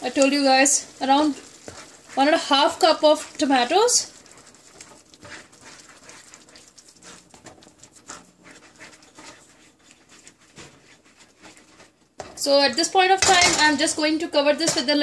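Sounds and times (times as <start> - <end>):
sauce sizzling: 0.0 - 14.1
spatula scraping a pan: 0.0 - 15.0.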